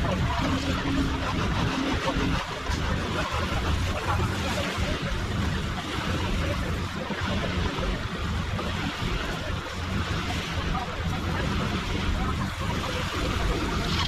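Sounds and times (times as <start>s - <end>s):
broad rushing noise: 0.0s - 14.0s
engine running: 0.0s - 14.0s.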